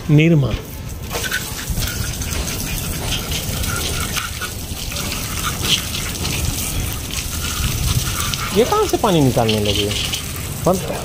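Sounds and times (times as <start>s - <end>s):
water splashing on concrete and plastic: 0.3s - 11.0s
water jetting from hose: 0.4s - 11.0s.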